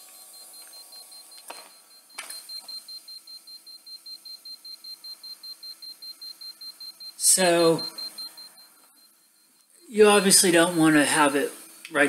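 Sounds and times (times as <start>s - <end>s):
meter beeping alarm: 0.0s - 12.0s.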